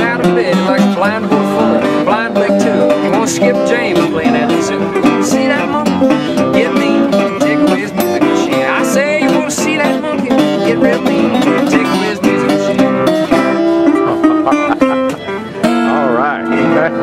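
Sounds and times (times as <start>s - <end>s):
acoustic guitar playing: 0.0s - 17.0s
resonator guitar fingerpicked: 0.0s - 17.0s.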